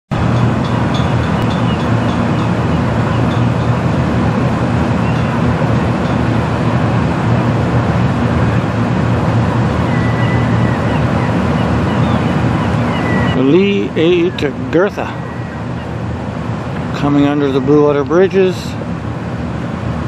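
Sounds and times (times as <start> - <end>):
low rumbling drone: 0.1 - 20.0
wind noise on microphone: 0.1 - 20.0.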